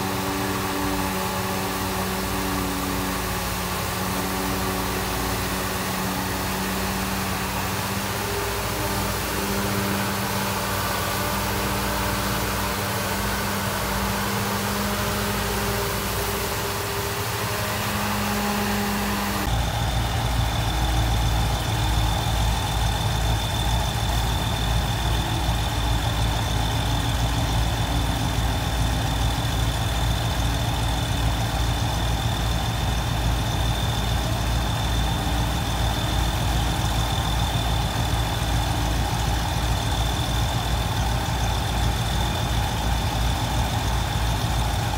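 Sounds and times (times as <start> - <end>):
heavy diesel engines running: 0.0 - 44.9
high whine: 0.0 - 44.9.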